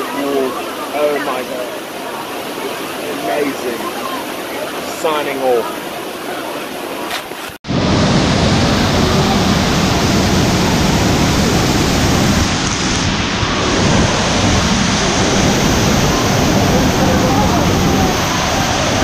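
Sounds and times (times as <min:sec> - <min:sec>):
rushing waterfall: 0:00.0 - 0:19.0.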